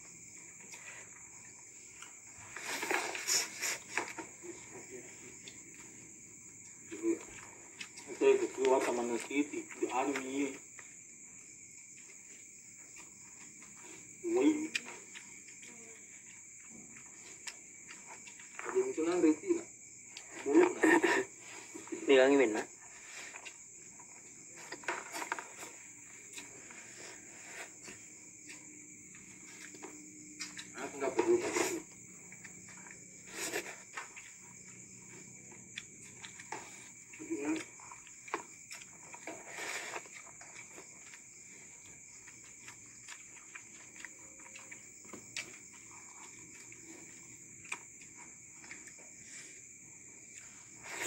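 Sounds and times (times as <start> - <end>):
crickets chirring: 0.0 - 51.0
steady high-pitched hiss: 0.0 - 51.0
clicks of eating from plastic plates: 0.4 - 11.0, 11.9 - 49.6.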